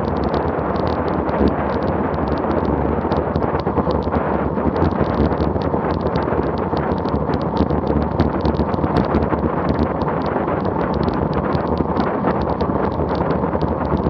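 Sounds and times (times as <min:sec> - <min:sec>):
tyre and road noise: 0:00.0 - 0:14.0
wind buffeting microphone: 0:00.0 - 0:14.0.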